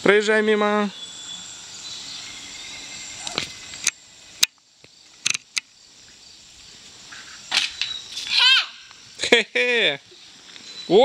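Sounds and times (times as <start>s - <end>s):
faint outdoor hiss: 0.0s - 11.0s
high-pitched insect chirring: 0.1s - 11.0s.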